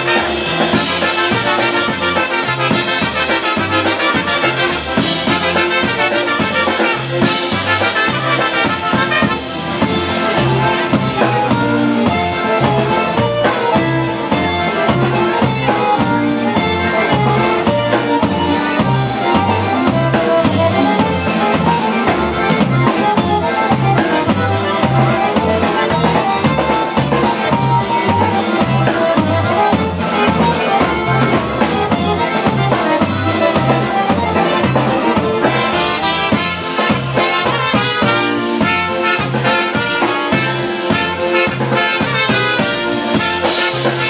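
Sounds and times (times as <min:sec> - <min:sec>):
accordion melody: 0:00.0 - 0:44.0
polka band playing: 0:00.0 - 0:44.0.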